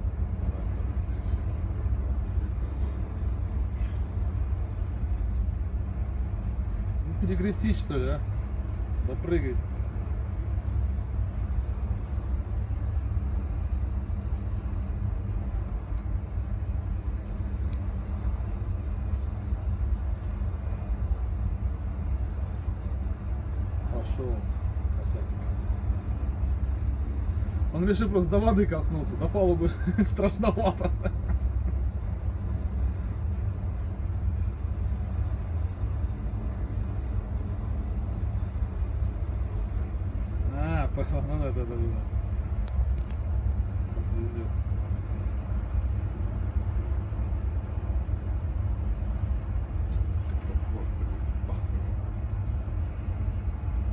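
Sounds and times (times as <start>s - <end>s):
helicopter rotor and engine rumble: 0.0s - 53.9s.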